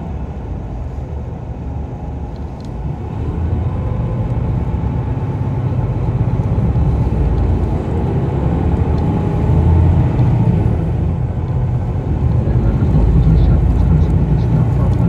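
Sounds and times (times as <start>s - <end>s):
coach engine and road rumble: 0.0s - 15.0s.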